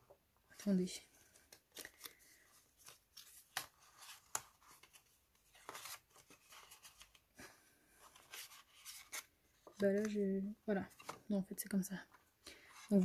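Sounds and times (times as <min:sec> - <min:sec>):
cardstock rustling and crinkling: 0:00.5 - 0:13.0.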